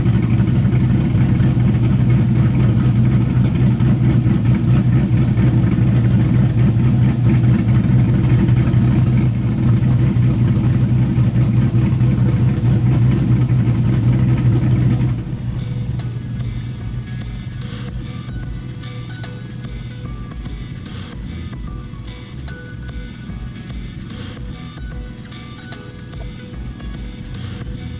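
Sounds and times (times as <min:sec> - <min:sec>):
vee eight engine running: 0:00.0 - 0:27.9.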